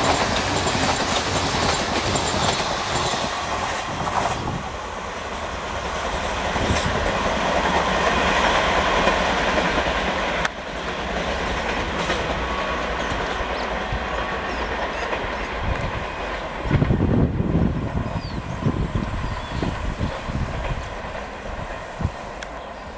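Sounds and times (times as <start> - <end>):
train coaches rushing past: 0.0 - 22.9.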